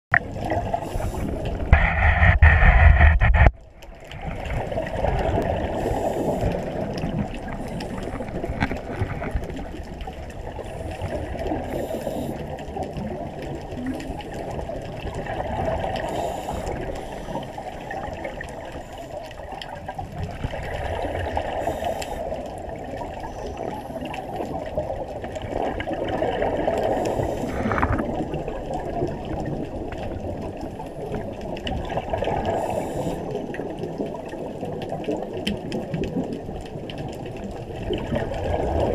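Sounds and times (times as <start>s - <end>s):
underwater rushing water: 0.1s - 38.9s.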